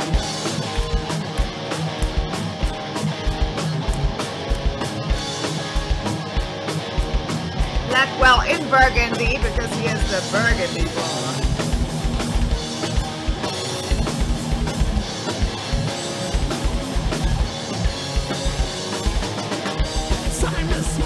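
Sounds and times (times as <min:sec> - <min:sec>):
drum kit with rapid bass drum: 0:00.0 - 0:21.0
electric guitars: 0:00.0 - 0:21.0.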